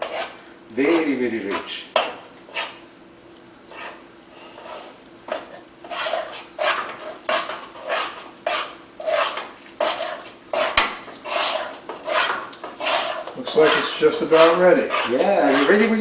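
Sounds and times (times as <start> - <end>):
spoon scraping a pan: 0.0 - 2.9, 3.7 - 16.0.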